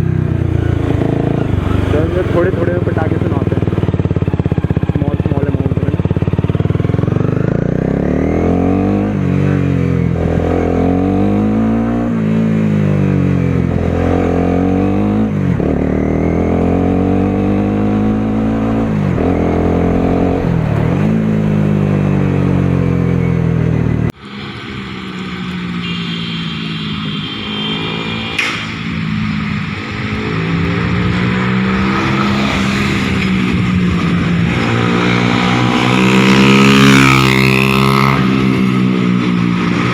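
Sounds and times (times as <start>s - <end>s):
motorcycle engine revving: 0.0s - 24.2s, 25.4s - 39.9s.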